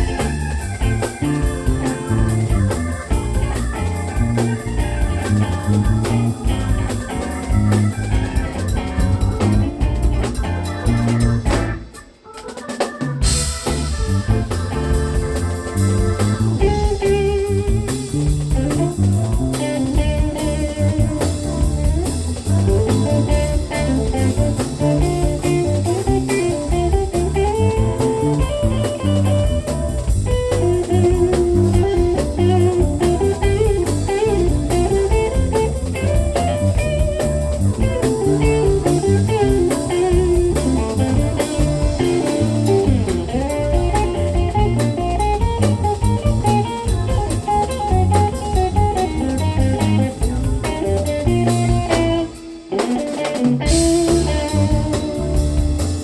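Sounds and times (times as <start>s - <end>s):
drum kit: 0.0s - 56.0s
guitar: 0.0s - 56.0s
live blues band: 0.0s - 56.0s.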